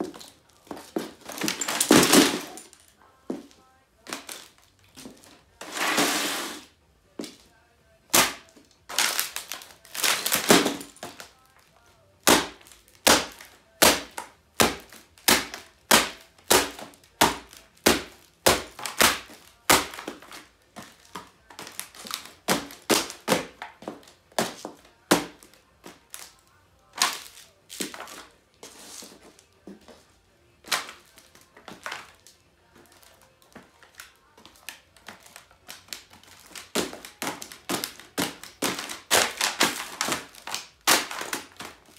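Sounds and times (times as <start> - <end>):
high heels cracking plastic laptop: 0.0 - 6.0, 8.1 - 11.3, 12.2 - 30.0, 30.6 - 41.9.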